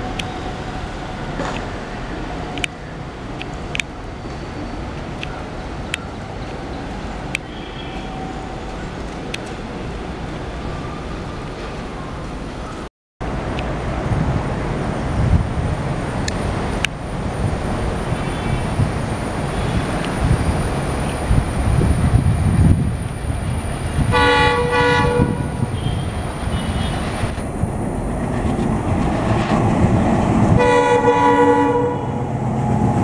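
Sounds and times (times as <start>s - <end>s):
diesel train rumbling past: 0.0s - 33.0s.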